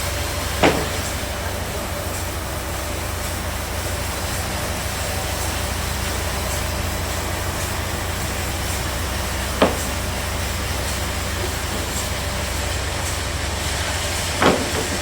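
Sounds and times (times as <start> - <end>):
bandsaw machinery humming: 0.0 - 15.0.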